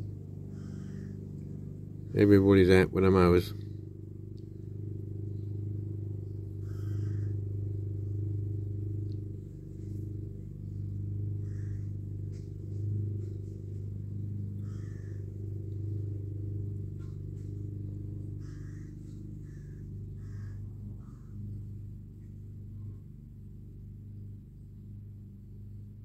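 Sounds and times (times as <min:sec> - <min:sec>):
distant lawn mowers droning: 0:00.0 - 0:26.0.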